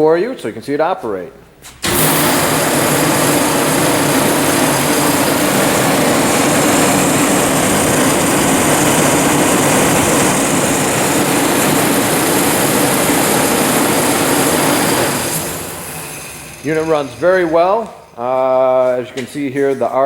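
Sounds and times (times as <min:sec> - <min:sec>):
water cooler running: 0:01.7 - 0:17.8.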